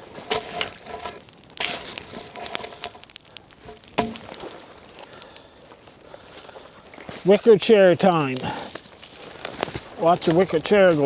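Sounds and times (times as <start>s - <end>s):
dry crackling and crunching: 0.0s - 11.0s.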